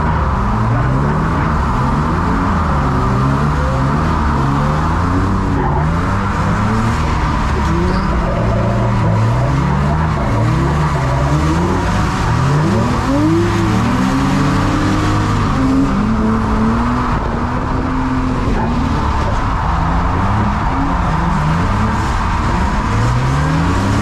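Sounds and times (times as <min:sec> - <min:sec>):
car engine revving: 0:00.0 - 0:24.0
tyres sliding on wet track: 0:00.0 - 0:24.0.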